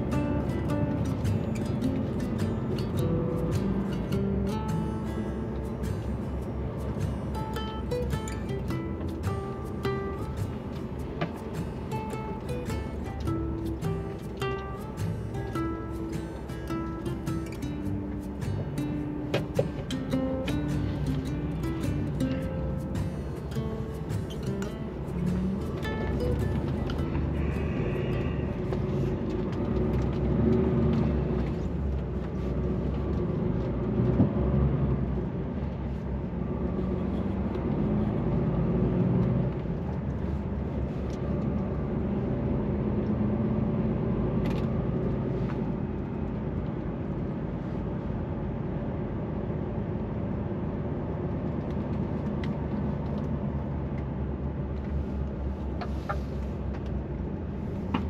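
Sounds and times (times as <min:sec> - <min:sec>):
truck diesel engine humming: 0:00.0 - 0:58.0.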